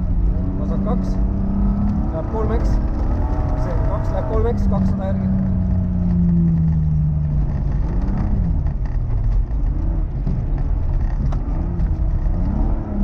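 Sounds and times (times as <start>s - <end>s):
rally car engine revving: 0.0s - 13.0s
tyres rumbling on gravel: 0.0s - 13.0s.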